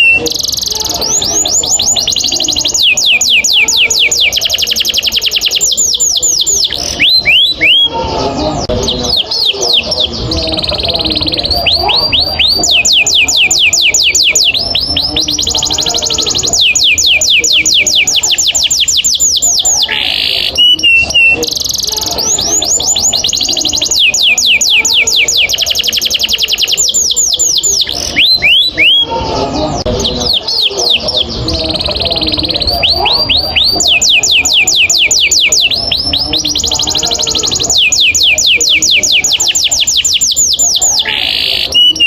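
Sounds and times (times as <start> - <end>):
canary singing: 0.0 - 42.0.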